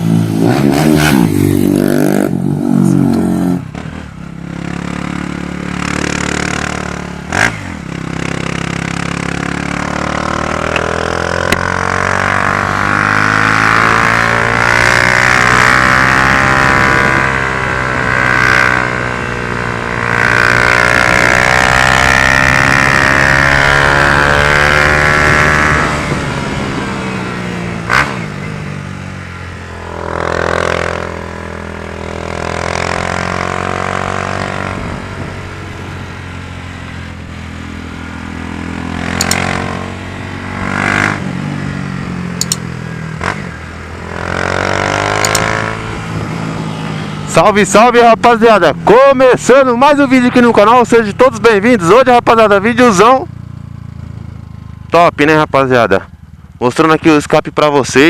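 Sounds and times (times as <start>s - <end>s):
motorcycle engine revving: 0.0s - 57.2s.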